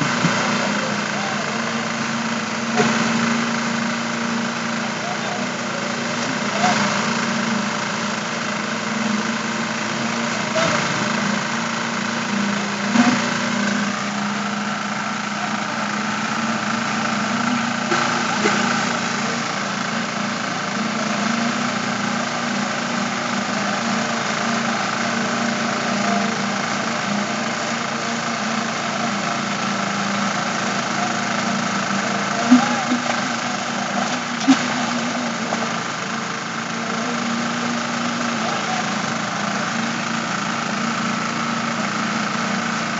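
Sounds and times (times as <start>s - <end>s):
construction machinery engine: 0.0s - 42.9s.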